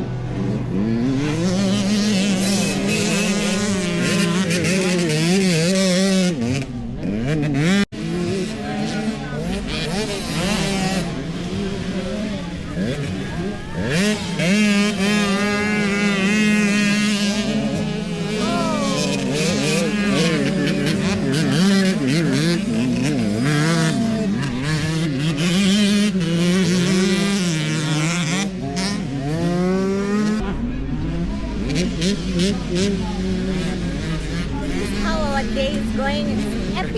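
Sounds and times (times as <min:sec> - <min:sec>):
motocross bike engines revving: 0:00.0 - 0:36.9.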